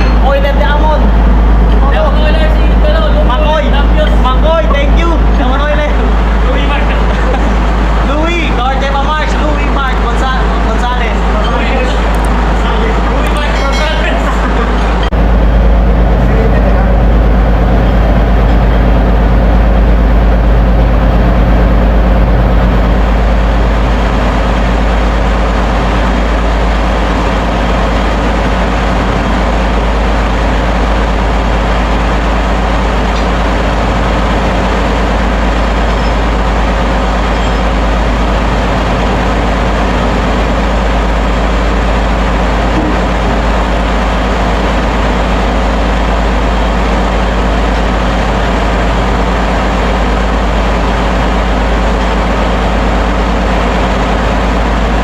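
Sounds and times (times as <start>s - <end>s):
ship engine room machinery drone: 0.0s - 55.0s
steady tones: 0.0s - 55.0s.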